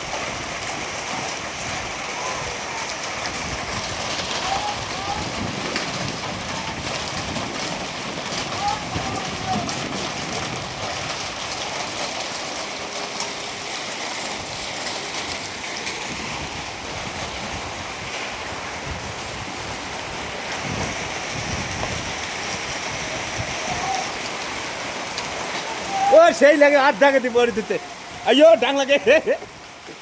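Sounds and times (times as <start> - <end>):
raindrop taps: 0.0 - 30.0
steady rain hiss: 0.0 - 30.0.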